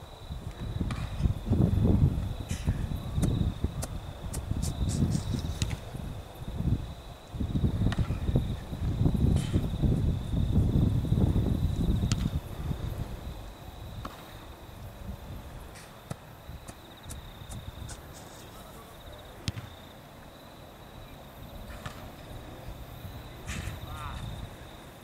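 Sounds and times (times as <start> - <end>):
wind rumble on microphone: 0.0 - 18.2, 21.4 - 24.7
insects trilling: 0.0 - 25.0.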